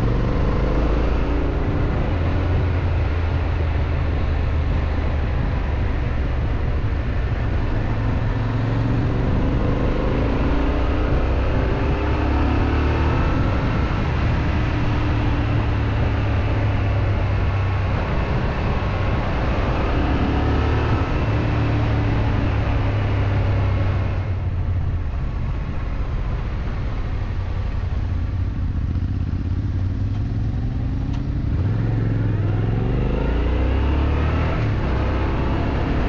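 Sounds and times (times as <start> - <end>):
steady rush of noise: 0.0 - 36.0.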